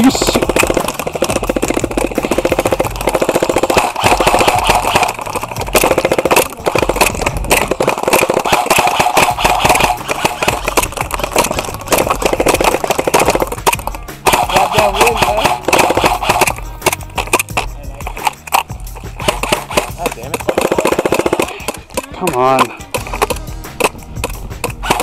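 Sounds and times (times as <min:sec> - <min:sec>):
airsoft rifles firing full-auto: 0:00.0 - 0:25.0.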